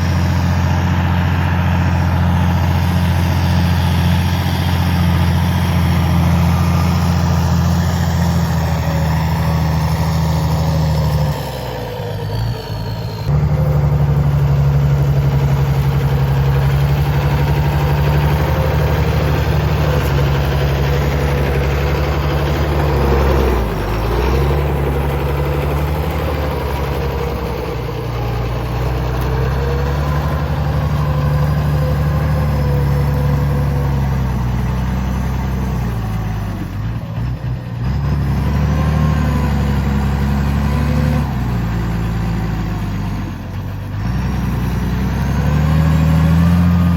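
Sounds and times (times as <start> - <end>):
tractor diesel engine rumbling: 0.0 - 46.9.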